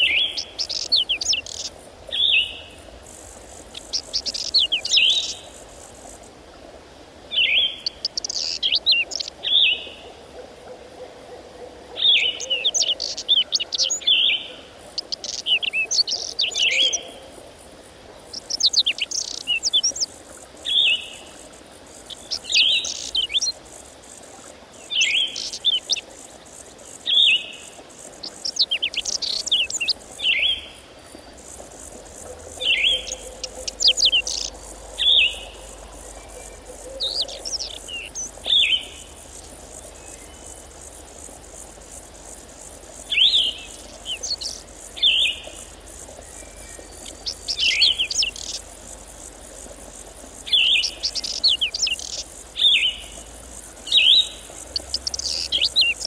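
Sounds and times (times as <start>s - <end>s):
songbird singing: 0.0s - 6.2s, 7.3s - 10.2s, 11.9s - 17.3s, 18.3s - 56.0s.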